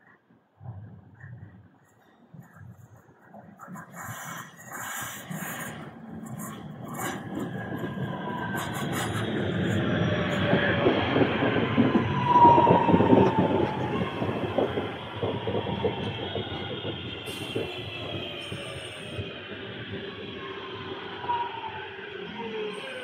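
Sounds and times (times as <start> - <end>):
train wheels rumbling: 4.4 - 23.0.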